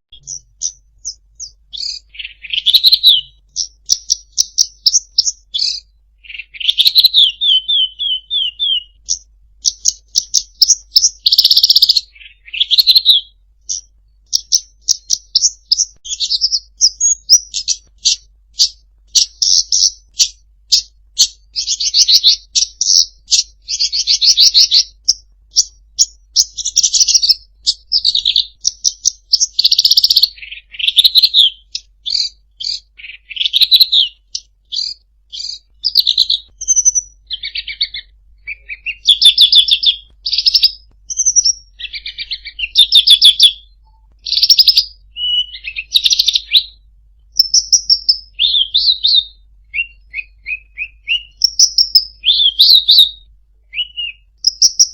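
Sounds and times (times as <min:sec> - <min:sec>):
songbird singing: 0:00.1 - 0:54.9.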